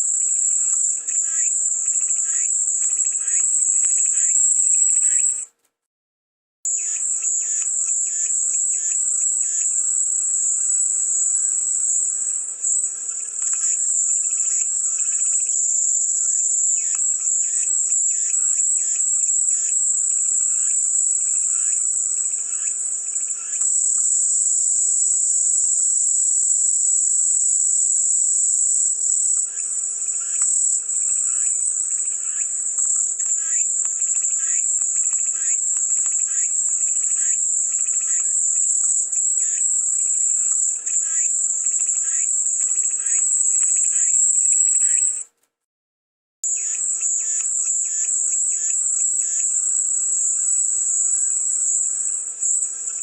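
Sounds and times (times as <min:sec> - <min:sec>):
cicadas droning: 0:00.0 - 0:05.4, 0:06.7 - 0:45.2, 0:46.4 - 0:53.0
rapidly pulsing insect call: 0:00.0 - 0:05.4, 0:06.7 - 0:45.2, 0:46.5 - 0:53.0.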